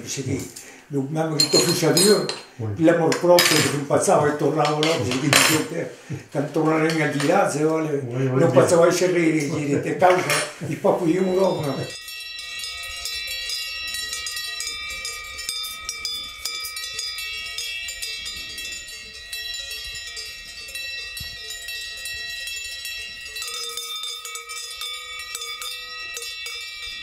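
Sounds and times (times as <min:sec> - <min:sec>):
cowbells clanking: 0:01.3 - 0:27.0.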